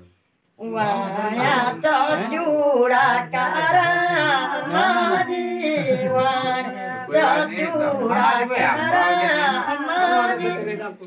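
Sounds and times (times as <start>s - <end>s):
people singing: 0.6s - 11.0s.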